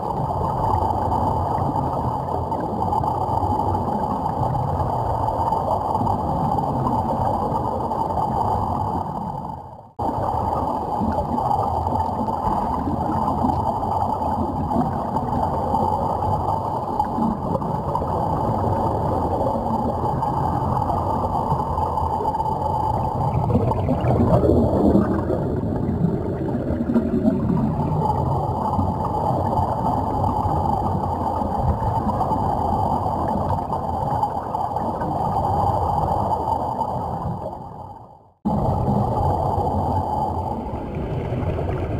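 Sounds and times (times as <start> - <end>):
rush of bubbles: 0.0 - 41.9
underwater bubbling rumble: 0.0 - 41.9.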